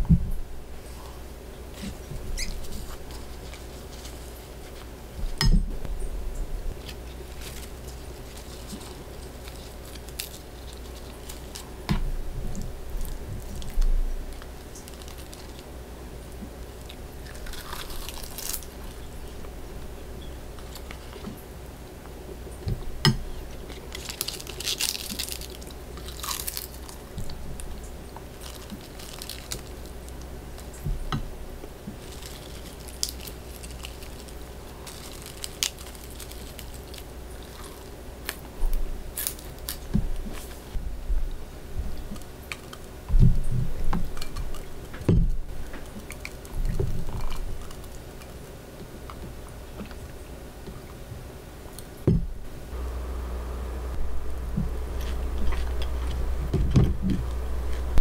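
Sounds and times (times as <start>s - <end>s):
steady low hum: 0.0s - 58.0s
rustling or crunching: 0.8s - 21.5s, 22.5s - 40.8s, 41.8s - 50.2s, 52.2s - 58.0s.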